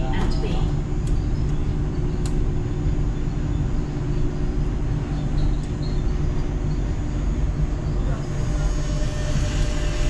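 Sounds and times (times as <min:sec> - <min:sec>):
train running rumble and hum: 0:00.0 - 0:10.0.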